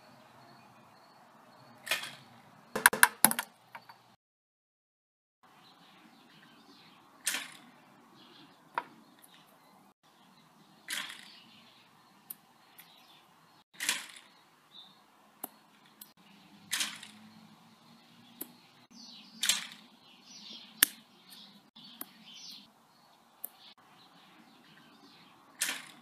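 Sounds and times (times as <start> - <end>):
birds chirping: 0.0 - 3.0, 5.4 - 26.0.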